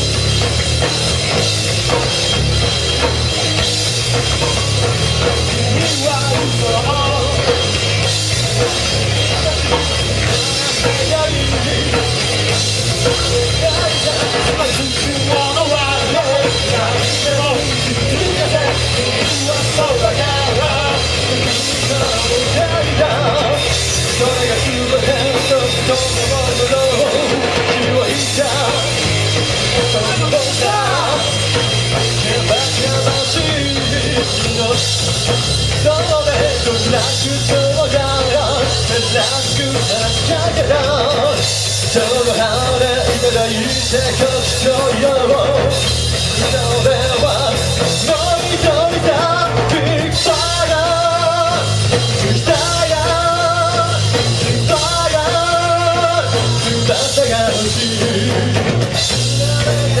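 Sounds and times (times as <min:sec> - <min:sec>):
bass and drums: 0:00.0 - 1:00.0
person singing: 0:04.3 - 0:07.8, 0:08.5 - 1:00.0.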